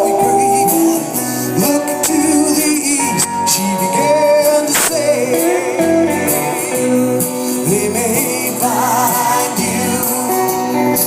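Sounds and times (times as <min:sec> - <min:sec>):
live band with singing: 0:00.0 - 0:11.0.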